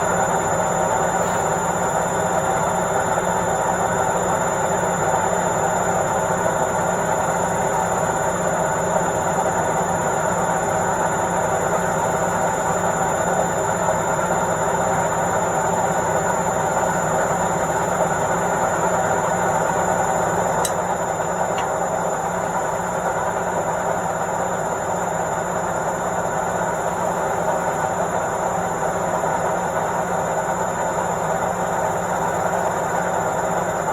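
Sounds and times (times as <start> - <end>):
washing machine spinning: 0.0 - 33.9.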